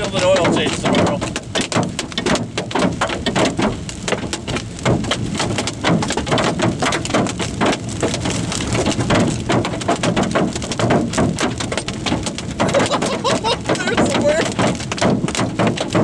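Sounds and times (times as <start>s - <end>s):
hail pelting car roof: 0.0s - 16.0s
rain: 0.0s - 16.0s.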